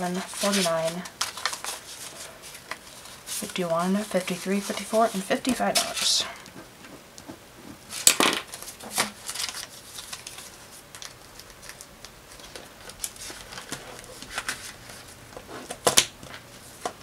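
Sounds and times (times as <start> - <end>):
banknotes and plastic pouches rustling: 0.0 - 6.3, 7.9 - 17.0.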